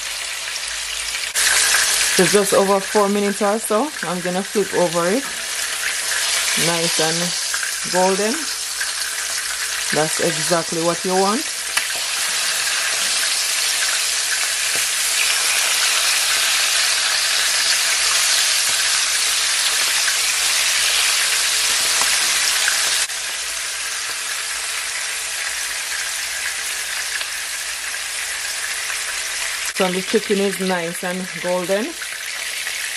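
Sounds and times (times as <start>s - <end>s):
chicken frying in hot oil: 0.0s - 32.9s.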